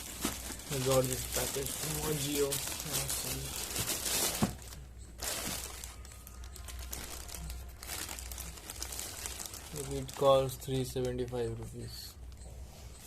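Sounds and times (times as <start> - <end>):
packaging crinkling: 0.0 - 11.7.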